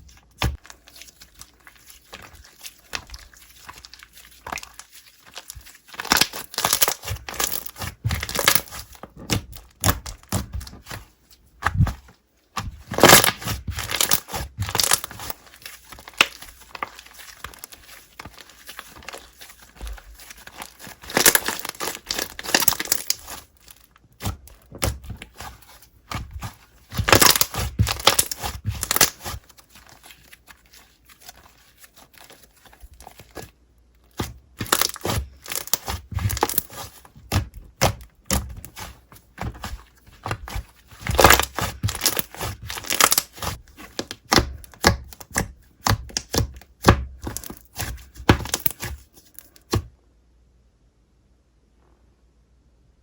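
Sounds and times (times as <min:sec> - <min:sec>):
slime crackling and popping: 0:00.3 - 0:11.0, 0:12.6 - 0:33.5, 0:34.1 - 0:49.8.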